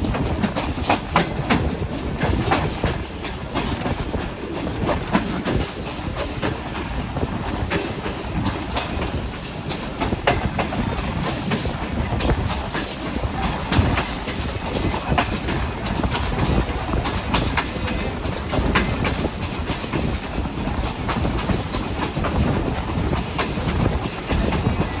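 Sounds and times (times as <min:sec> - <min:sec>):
train rumbling on track: 0:00.0 - 0:25.0
wheels clacking over rails: 0:00.0 - 0:25.0.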